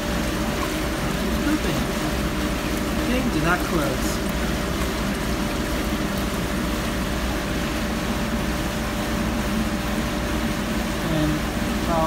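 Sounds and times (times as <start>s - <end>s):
dishwasher humming: 0.0s - 12.0s
water spraying: 0.0s - 12.0s.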